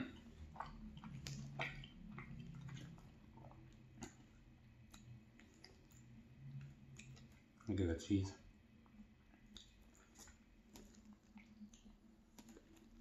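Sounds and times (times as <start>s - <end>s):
soft chewing: 0.0s - 13.0s.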